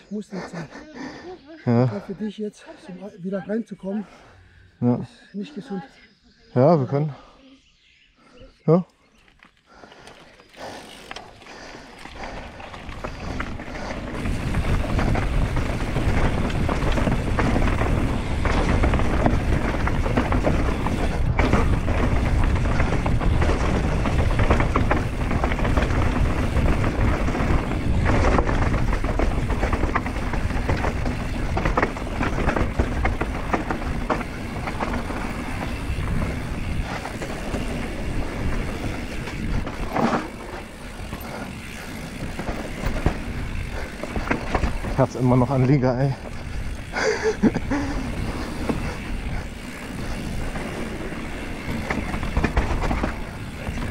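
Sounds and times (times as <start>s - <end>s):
bike tyre rumble on dirt: 9.1s - 53.9s.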